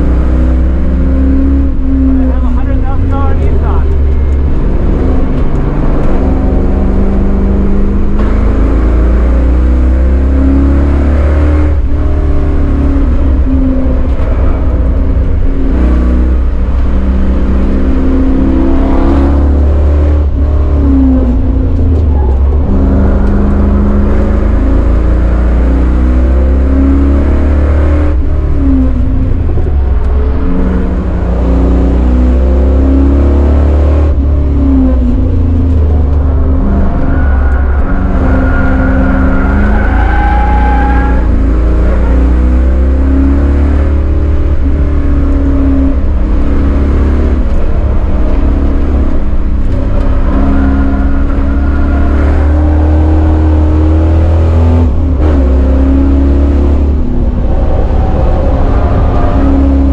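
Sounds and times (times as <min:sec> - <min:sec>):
car engine drone from inside cabin: 0:00.0 - 0:59.9.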